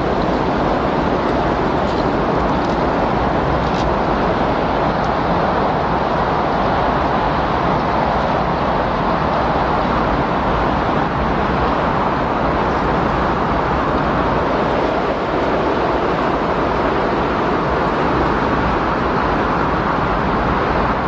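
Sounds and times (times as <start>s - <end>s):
loud rushing wind: 0.0s - 21.0s.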